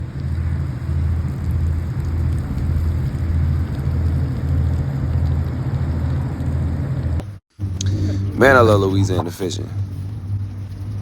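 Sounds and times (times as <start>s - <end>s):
steady rain: 0.0s - 7.3s, 8.0s - 11.0s
loud low rumble: 0.0s - 11.0s.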